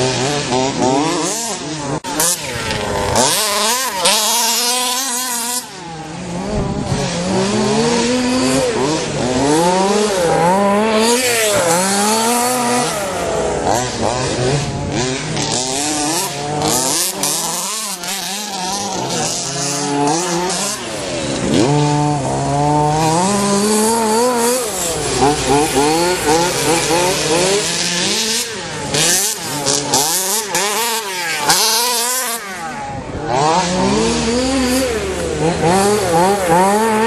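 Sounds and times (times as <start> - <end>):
rc car engines revving: 0.0 - 37.0.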